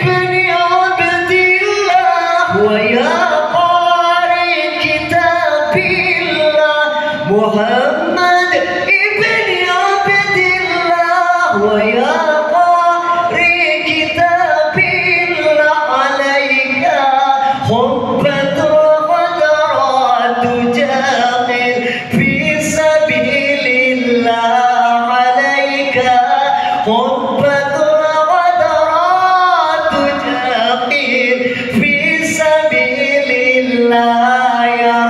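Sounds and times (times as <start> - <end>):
man singing devotional song: 0.0 - 35.0.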